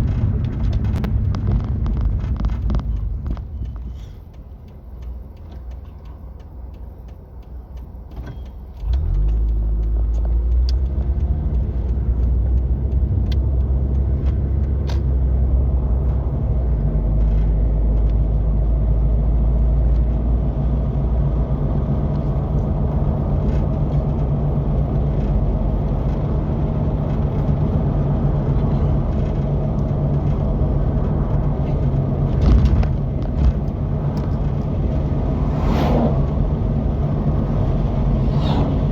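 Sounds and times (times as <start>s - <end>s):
vehicle engine starting and running: 0.0s - 38.9s.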